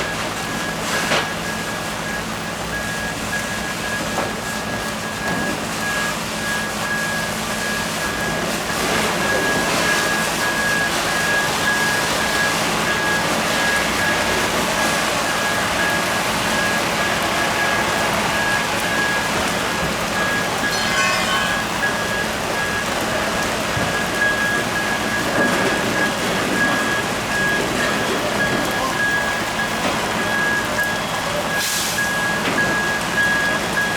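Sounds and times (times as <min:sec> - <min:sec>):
water spraying from fire hose: 0:00.0 - 0:33.9.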